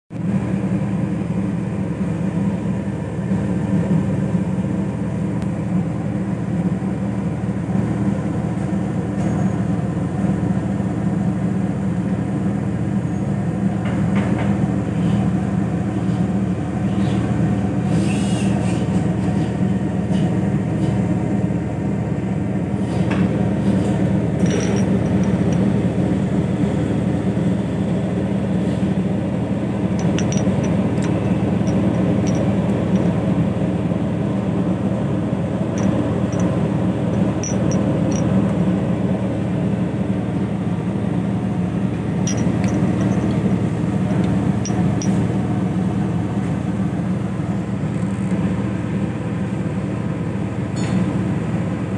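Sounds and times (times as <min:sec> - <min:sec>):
low machine drone: 0:00.2 - 0:51.9.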